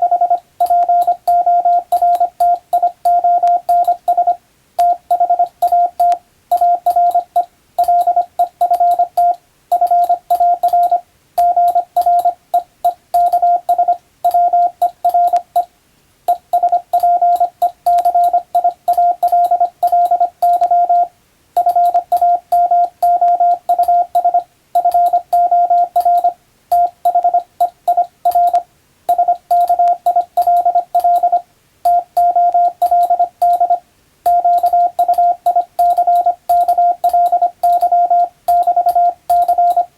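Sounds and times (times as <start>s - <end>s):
morse code beeps: 0.0s - 15.7s, 16.3s - 39.9s.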